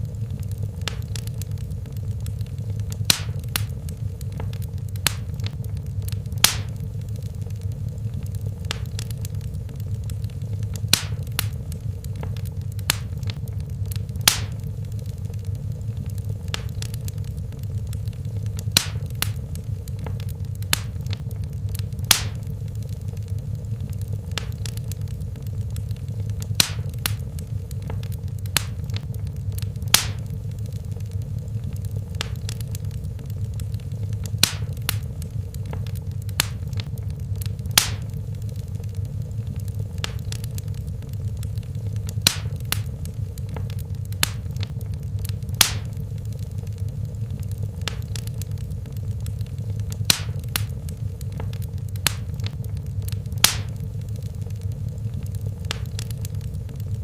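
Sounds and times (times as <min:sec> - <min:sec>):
fire crackling in fireplace: 0:00.0 - 0:57.0.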